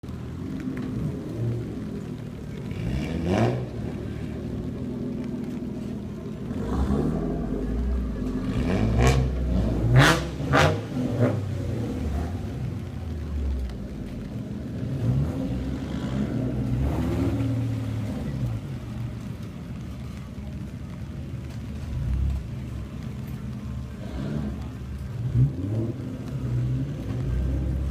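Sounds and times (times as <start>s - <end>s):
car exhausts revving: 0.8s - 19.9s, 23.7s - 27.9s.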